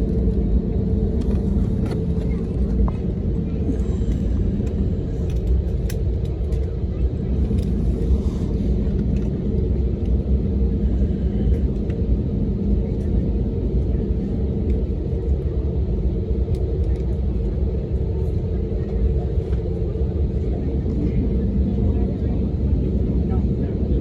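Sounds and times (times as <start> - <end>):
airliner engines rumbling: 0.0 - 24.0.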